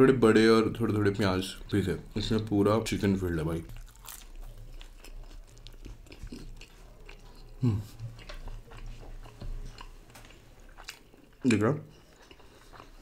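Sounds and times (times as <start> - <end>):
chewing and biting spring roll: 1.5 - 13.0.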